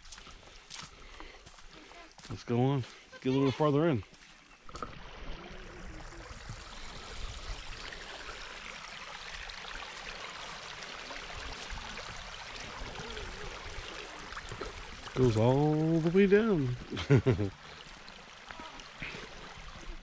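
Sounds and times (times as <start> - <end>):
water trickling: 2.2 - 20.0.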